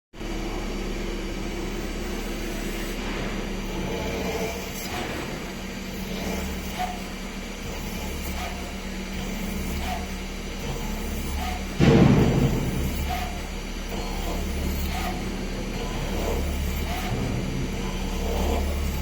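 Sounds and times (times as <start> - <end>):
machine mechanical hum: 0.2 - 19.0.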